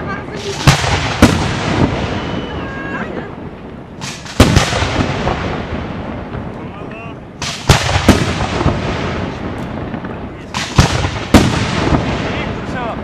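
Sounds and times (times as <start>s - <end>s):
rumble and crackle of bursts: 0.0s - 13.0s
firework shells bursting: 0.3s - 2.6s, 3.4s - 6.7s, 7.3s - 13.0s
loud firework bang: 0.4s - 2.8s, 4.0s - 6.7s, 7.4s - 13.0s.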